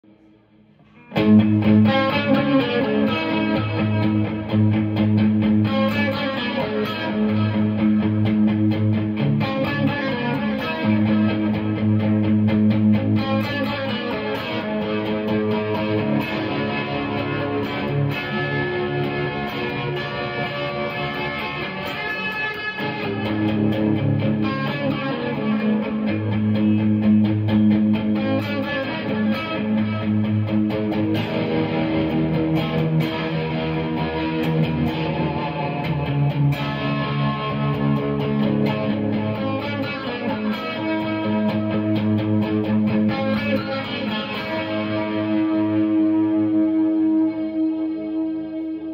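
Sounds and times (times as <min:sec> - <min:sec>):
overdriven electric guitar riffs: 0:00.0 - 0:48.9.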